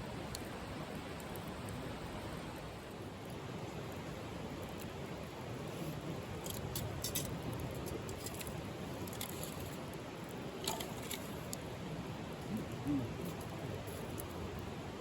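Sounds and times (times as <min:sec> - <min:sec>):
steady low rush of fire: 0:00.0 - 0:15.0
wood fire crackling and popping: 0:00.1 - 0:14.8.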